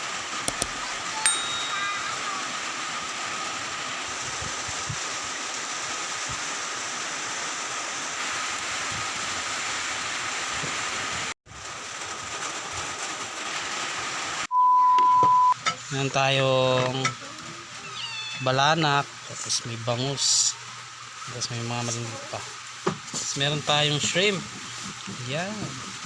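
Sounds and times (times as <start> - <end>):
steady rain falling: 0.0 - 14.5, 16.0 - 26.0.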